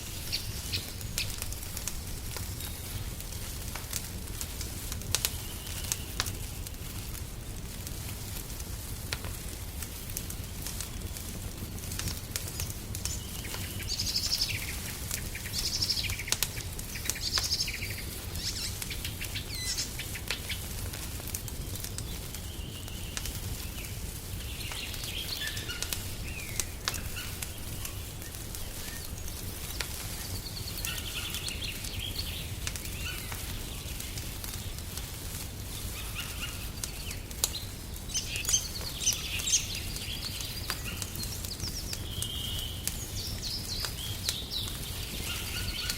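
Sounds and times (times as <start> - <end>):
small birds chirping and singing: 0.0 - 3.2, 5.1 - 6.8, 10.2 - 20.7, 21.3 - 45.9
wood fire crackling: 0.0 - 45.9.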